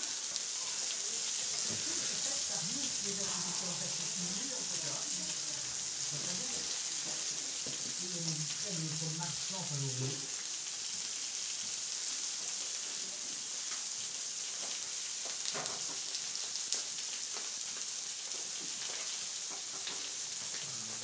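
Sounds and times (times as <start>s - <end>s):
vegetables sizzling on a griddle: 0.0s - 21.0s.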